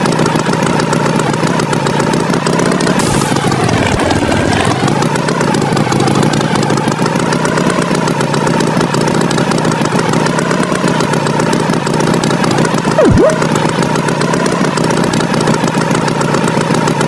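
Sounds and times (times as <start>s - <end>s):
tractor engine chugging: 0.0s - 17.0s.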